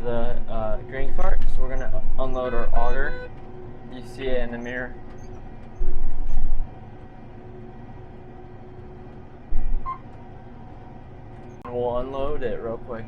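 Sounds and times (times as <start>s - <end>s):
combine harvester engine: 0.0s - 13.0s
loud low rumbles: 0.0s - 13.0s.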